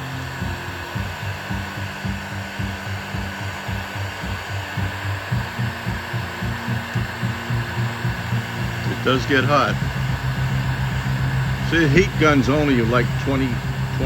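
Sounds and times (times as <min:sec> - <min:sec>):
heat gun blowing air: 0:00.0 - 0:14.0.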